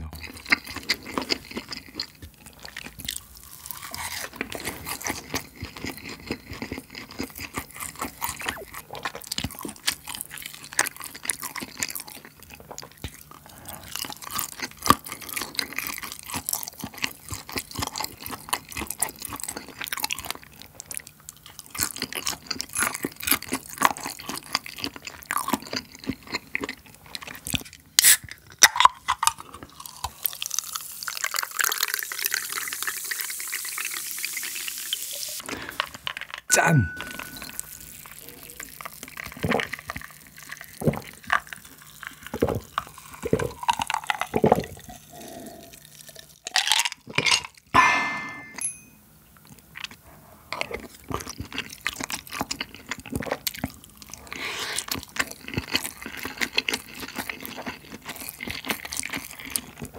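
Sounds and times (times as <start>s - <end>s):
chewing and crunching: 0.0s - 32.7s, 37.1s - 47.7s, 49.4s - 59.9s.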